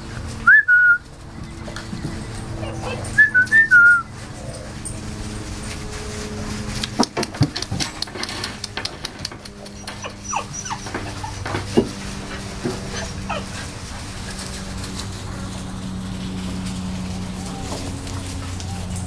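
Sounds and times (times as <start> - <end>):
puppies whining: 0.1 - 19.0.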